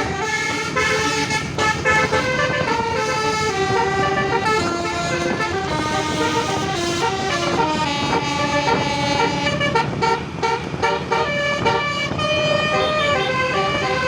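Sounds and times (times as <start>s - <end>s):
multi-trumpet air horn tune: 0.0s - 14.0s
vehicle noise: 0.0s - 14.0s.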